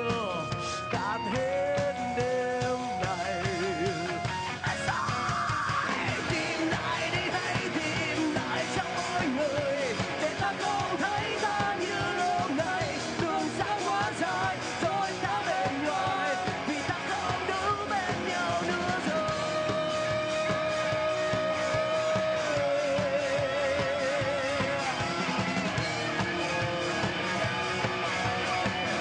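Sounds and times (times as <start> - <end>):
man singing: 0.0 - 25.4
rock band playing live: 0.0 - 29.0.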